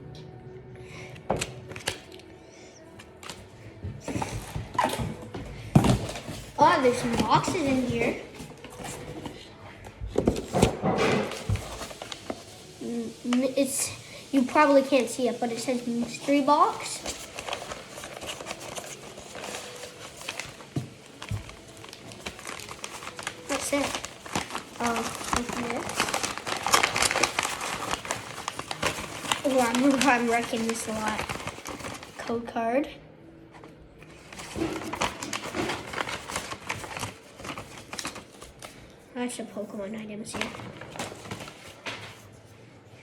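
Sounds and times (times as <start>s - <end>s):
packaging rustling: 3.0s - 9.5s, 10.1s - 32.4s, 33.6s - 38.9s, 40.3s - 42.4s.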